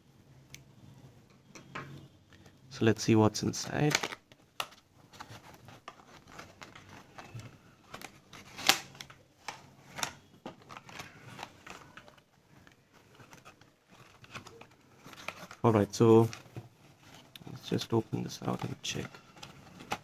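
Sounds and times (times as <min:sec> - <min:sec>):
packaging rustling and scraping: 0:03.5 - 0:20.0.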